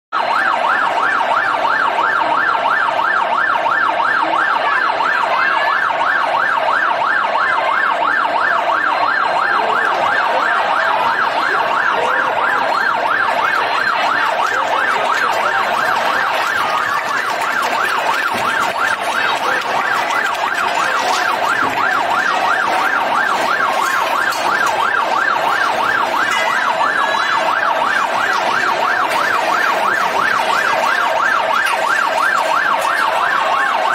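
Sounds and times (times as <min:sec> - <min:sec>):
fire engine siren yelping: 0:00.2 - 0:33.9.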